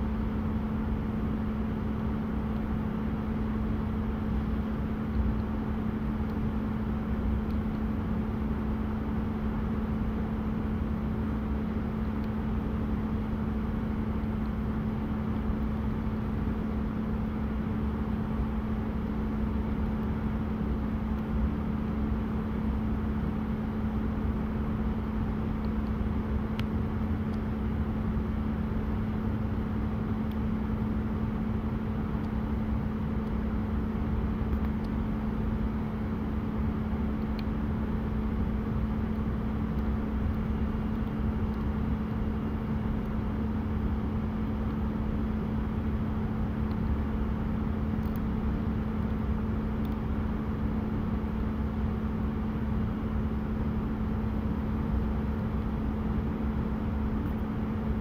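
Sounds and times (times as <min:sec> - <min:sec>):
machinery hum: 0:00.0 - 0:58.0.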